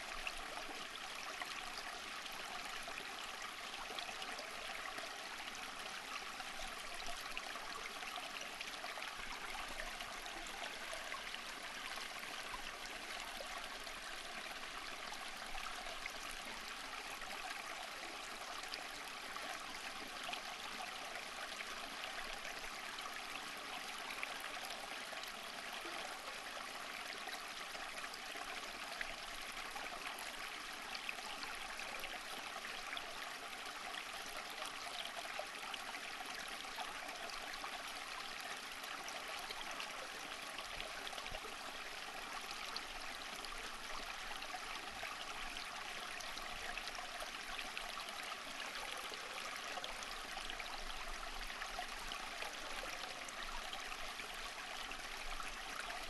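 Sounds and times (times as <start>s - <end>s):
stream water over stones: 0.0s - 56.0s.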